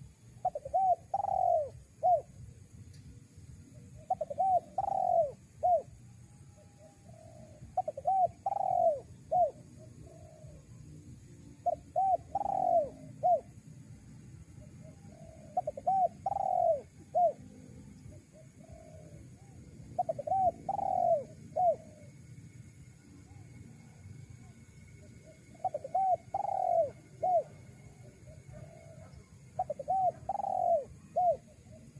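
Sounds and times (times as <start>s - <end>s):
dove cooing: 0.0s - 2.4s, 3.8s - 6.0s, 6.6s - 10.8s, 11.6s - 13.7s, 14.6s - 22.3s, 23.3s - 31.9s.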